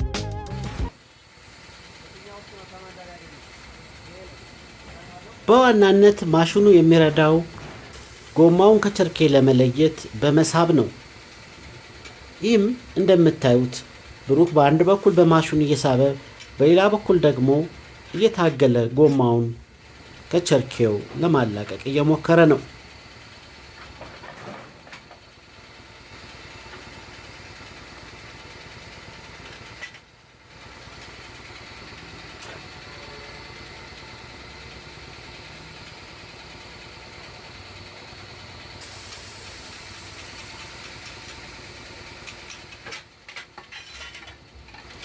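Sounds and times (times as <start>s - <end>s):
tyre-changing machine humming: 0.0s - 45.0s.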